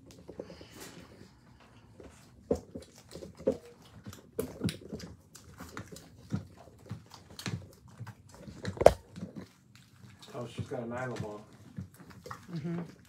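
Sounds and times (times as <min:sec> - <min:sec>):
dog and puppies grunting and squeaking: 0:00.0 - 0:10.3, 0:11.5 - 0:13.0.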